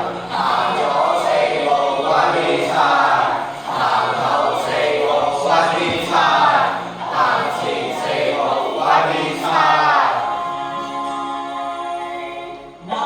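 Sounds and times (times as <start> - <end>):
group of voices singing: 0.0 - 13.0
music: 0.0 - 13.0.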